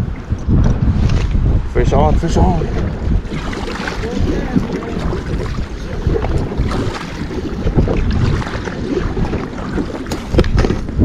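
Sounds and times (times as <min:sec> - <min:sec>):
water lapping around hull: 0:00.0 - 0:11.0
wind buffeting microphone: 0:00.0 - 0:11.0.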